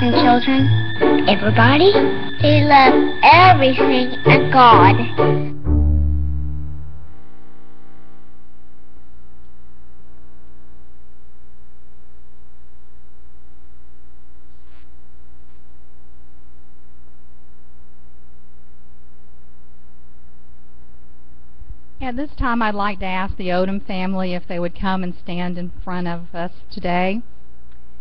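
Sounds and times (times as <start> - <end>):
electrical mains hum: 0.0 - 5.6, 6.8 - 28.0.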